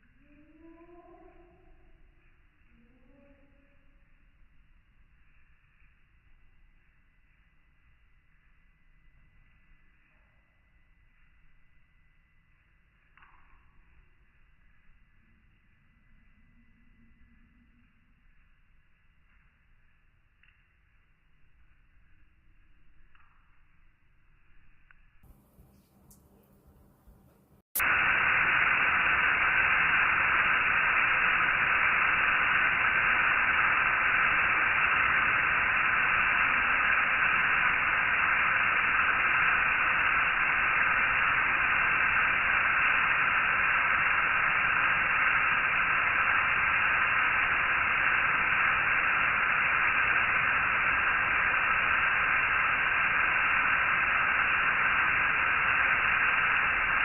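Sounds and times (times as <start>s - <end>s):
static hiss: 0.0s - 57.0s.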